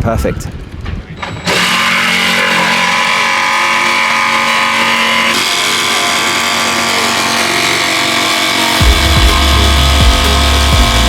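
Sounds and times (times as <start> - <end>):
power saw cutting: 1.2 - 11.0.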